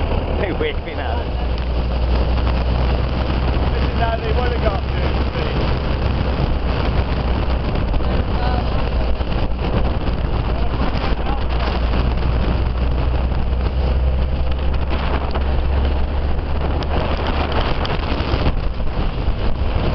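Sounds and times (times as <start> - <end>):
engine and tyres rumbling: 0.0 - 19.9
wind buffeting microphone: 0.0 - 19.9.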